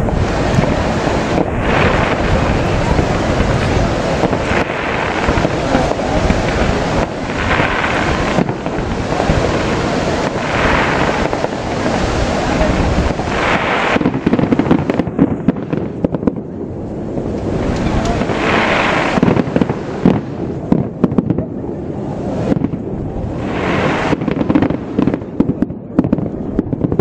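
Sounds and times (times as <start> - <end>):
firework bursts and crackling: 0.0 - 27.0
heavy firework bangs: 0.0 - 27.0.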